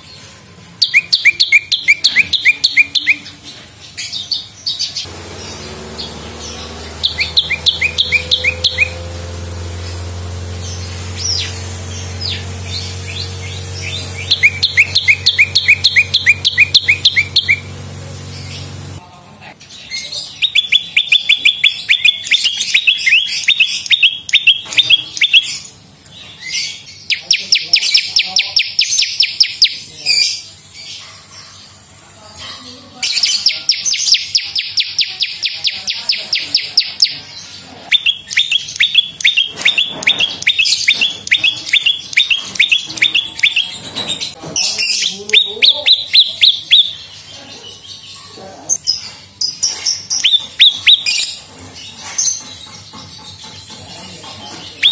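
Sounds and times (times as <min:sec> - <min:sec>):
bird chirping and trilling: 0:00.0 - 0:19.0, 0:19.6 - 0:54.9.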